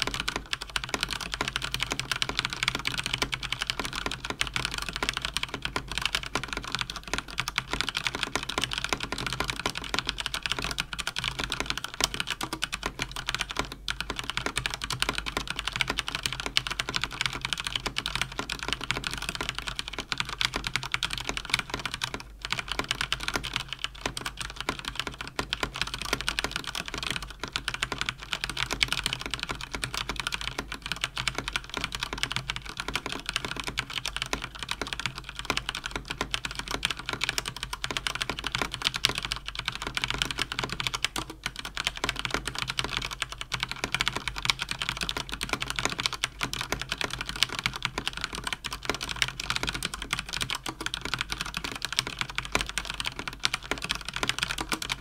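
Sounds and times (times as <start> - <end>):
fast typing on mechanical keyboard: 0.0 - 55.0.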